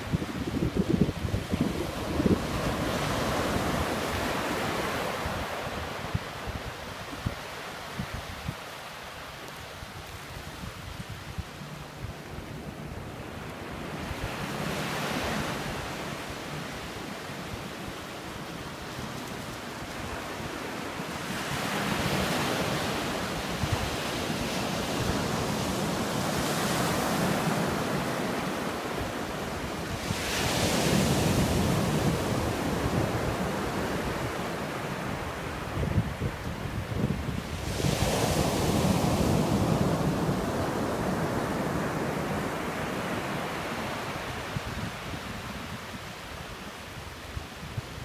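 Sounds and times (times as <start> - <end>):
ocean surf breaking on sand: 0.0 - 48.0.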